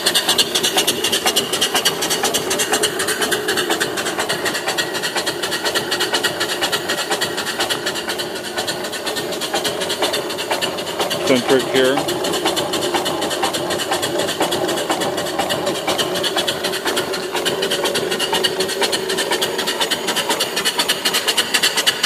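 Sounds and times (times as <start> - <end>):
steam engine exhaust chuffing: 0.0 - 22.0.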